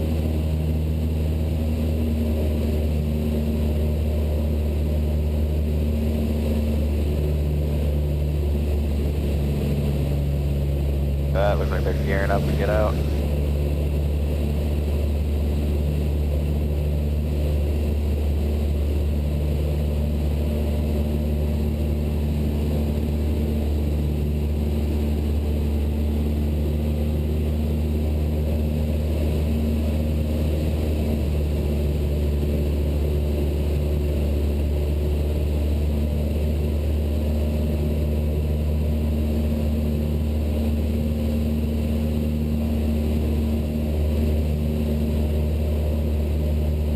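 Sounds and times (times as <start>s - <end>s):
airplane engine and propeller droning: 0.0s - 46.9s.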